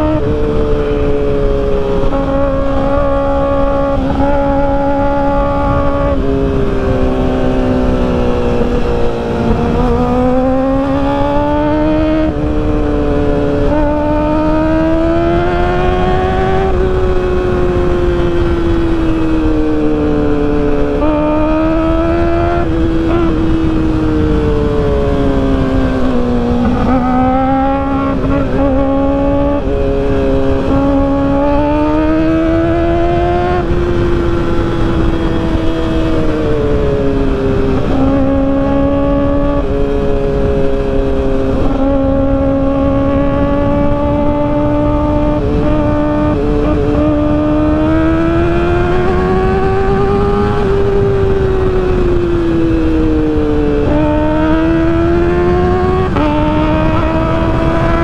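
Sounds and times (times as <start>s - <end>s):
motorcycle engine revving high: 0.0s - 58.0s
wind rush on microphone: 0.0s - 58.0s.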